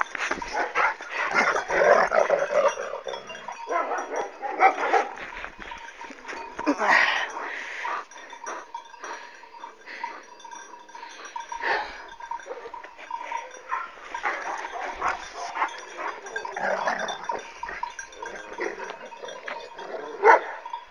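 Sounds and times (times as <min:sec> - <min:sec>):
dogs fighting: 0:00.0 - 0:20.7.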